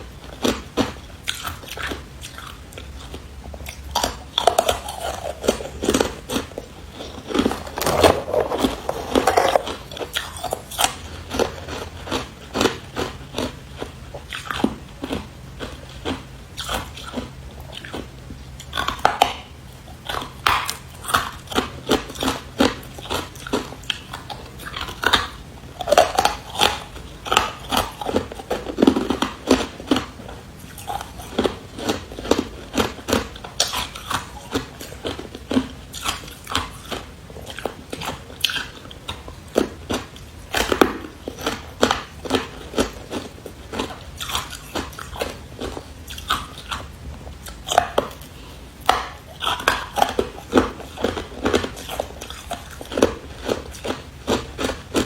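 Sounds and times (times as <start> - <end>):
ice crunching in mouth: 0.0 - 55.0.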